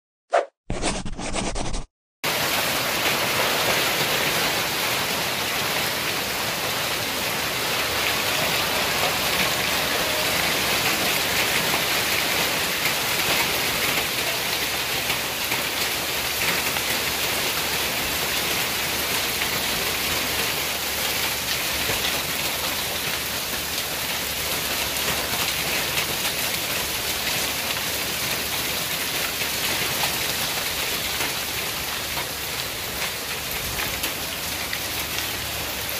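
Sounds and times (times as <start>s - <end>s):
heavy rain and hail on wood: 2.2s - 35.9s.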